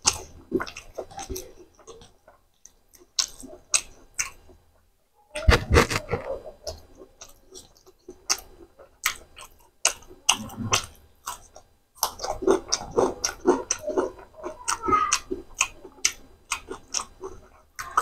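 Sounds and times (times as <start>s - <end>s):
wet chewing smacks and clicks: 0.0s - 4.6s, 5.6s - 18.0s
crunchy chewing: 0.0s - 4.8s, 5.4s - 18.0s.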